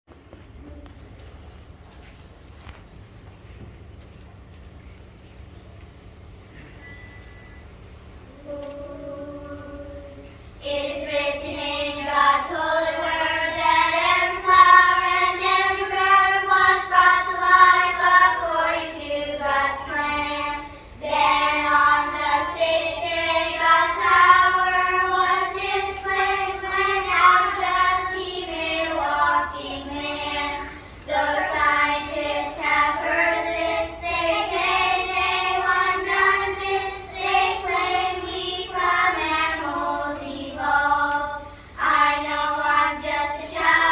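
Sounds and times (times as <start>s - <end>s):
children's choir singing: 8.2s - 43.9s.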